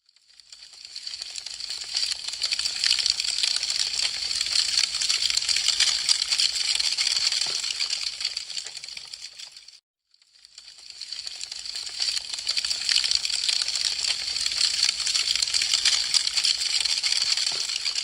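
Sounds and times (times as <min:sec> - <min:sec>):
wood fire crackling: 0:00.3 - 0:09.8, 0:10.4 - 0:18.0.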